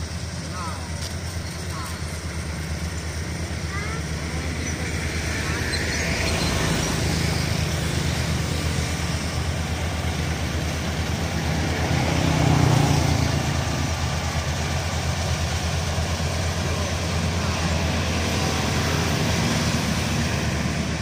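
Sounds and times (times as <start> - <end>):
combine harvester engine droning: 0.0 - 21.0.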